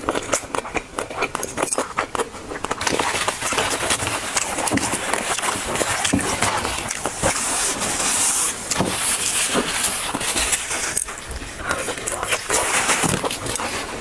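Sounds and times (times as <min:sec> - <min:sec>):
chewing and mouth smacks: 0:00.0 - 0:07.8, 0:08.5 - 0:14.0.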